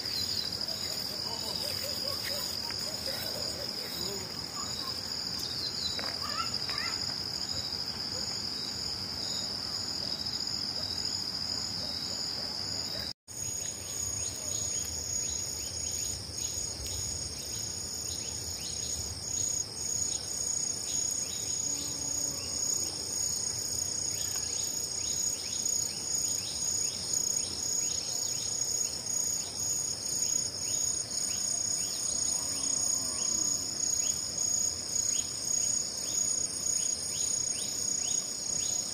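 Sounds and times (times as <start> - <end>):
insects trilling: 0.0 - 38.9
pulsing insect chirp: 0.0 - 38.9.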